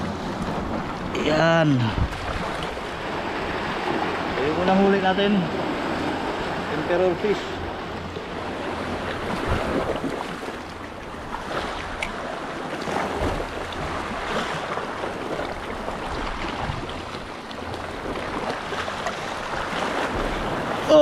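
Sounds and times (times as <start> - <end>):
wind rumbling on microphone: 0.0 - 6.9, 7.6 - 12.2, 12.8 - 21.0
waves washing over rocks: 0.0 - 21.0.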